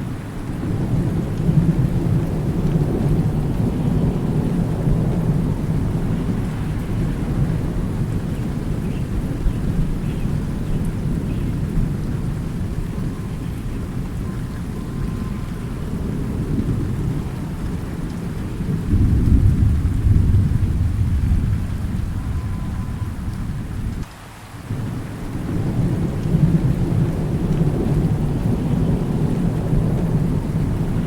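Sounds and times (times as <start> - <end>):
heavy rain: 0.0 - 31.0
low rolling thunder: 0.0 - 31.0.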